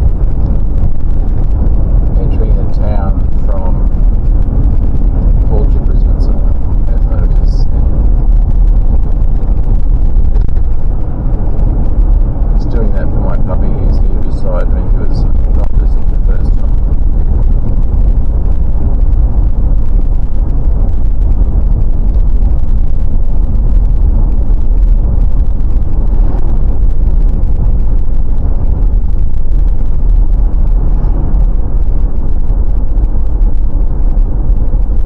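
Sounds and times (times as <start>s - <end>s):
car cabin road and engine rumble: 0.0s - 35.0s.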